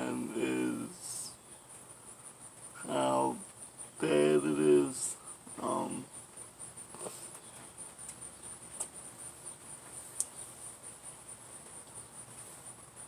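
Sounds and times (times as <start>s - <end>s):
cricket chirping trill: 0.0s - 13.0s.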